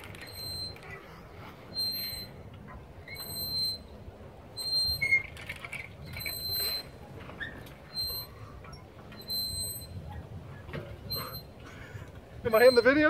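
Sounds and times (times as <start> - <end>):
swing squeaking: 0.0 - 13.0.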